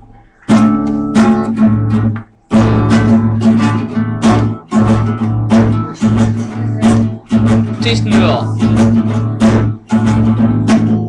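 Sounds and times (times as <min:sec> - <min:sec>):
strummed guitar chords: 0:00.0 - 0:11.0
bass line: 0:00.5 - 0:11.0.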